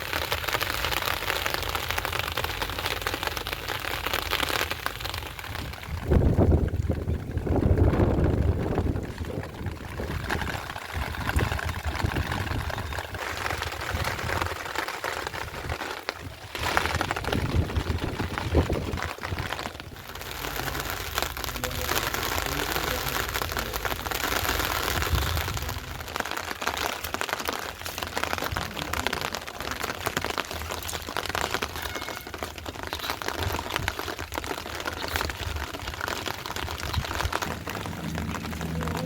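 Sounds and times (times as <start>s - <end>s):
raindrops tapping on surfaces: 0.0s - 39.0s
steady rain hiss: 0.0s - 39.0s.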